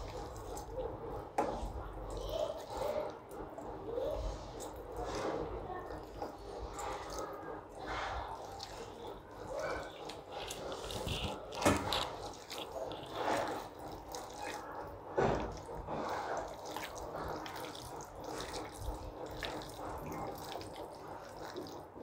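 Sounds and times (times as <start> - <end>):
hands squelching raw chicken: 0.0 - 22.0.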